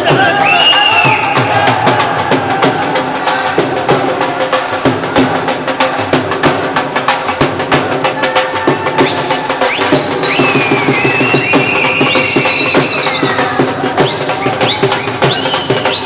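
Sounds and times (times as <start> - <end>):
quick steady drumbeat: 0.0 - 16.0.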